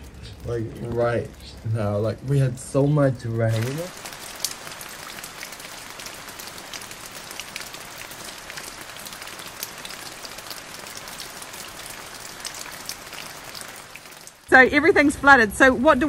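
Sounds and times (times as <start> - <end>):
steady rain on lawn and puddles: 0.0 - 16.0.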